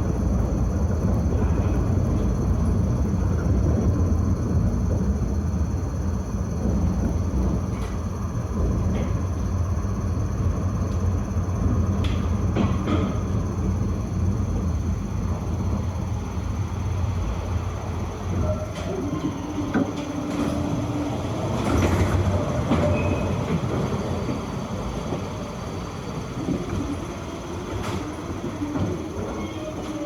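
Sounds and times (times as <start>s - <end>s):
tram rumbling along track: 0.0s - 30.0s.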